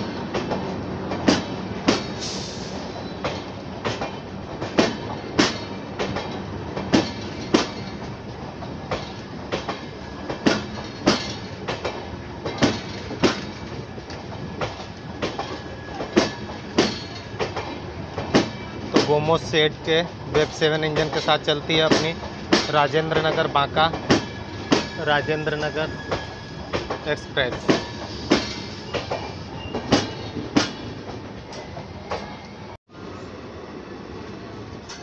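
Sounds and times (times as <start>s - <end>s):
train coaches rumbling past: 0.0s - 35.0s.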